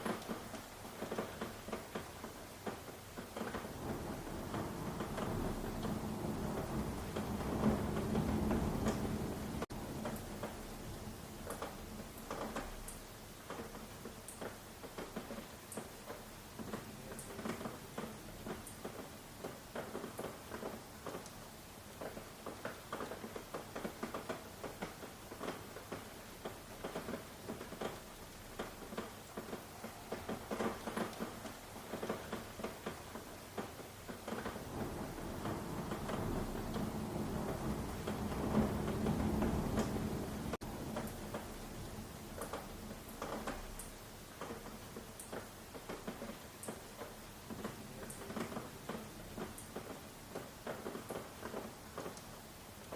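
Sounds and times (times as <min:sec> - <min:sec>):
rain pattering: 0:00.0 - 0:52.9.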